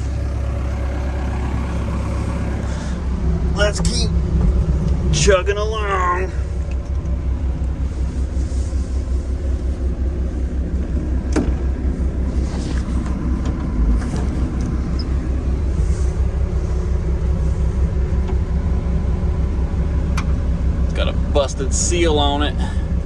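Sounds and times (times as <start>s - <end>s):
excavator engine rumbling: 0.0s - 23.0s.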